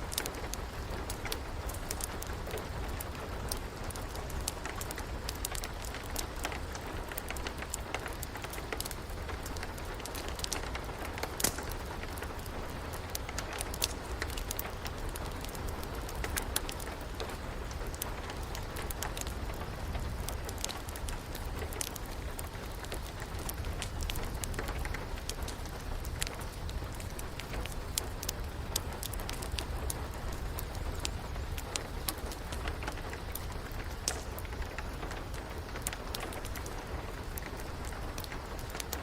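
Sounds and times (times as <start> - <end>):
steady rain: 0.0 - 39.0
wood fire crackling and popping: 0.0 - 39.0.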